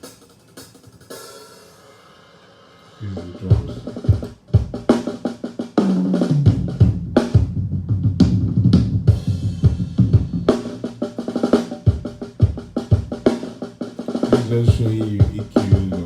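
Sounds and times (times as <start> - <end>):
drum kit groove: 0.0 - 16.0.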